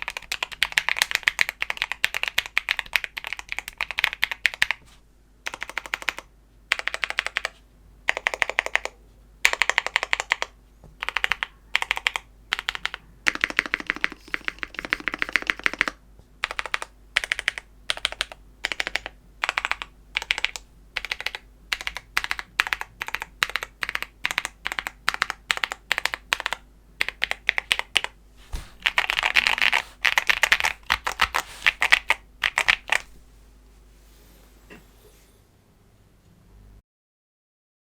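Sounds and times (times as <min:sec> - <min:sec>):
mechanical keyboard typing: 0:00.0 - 0:04.8, 0:05.4 - 0:28.2, 0:28.8 - 0:33.1.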